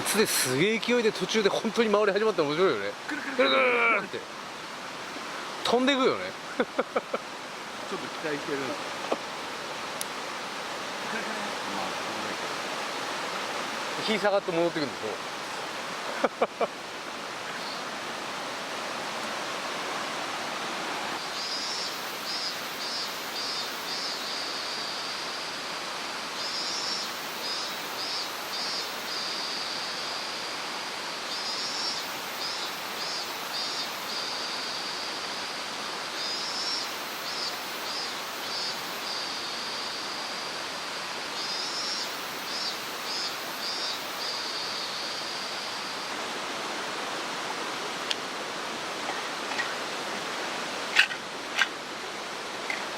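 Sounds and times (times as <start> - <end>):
mountain stream rushing: 0.0 - 52.9.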